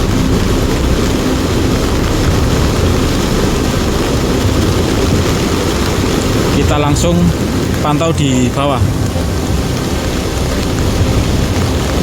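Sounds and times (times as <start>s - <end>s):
mudflow rushing rumble: 0.0s - 12.0s.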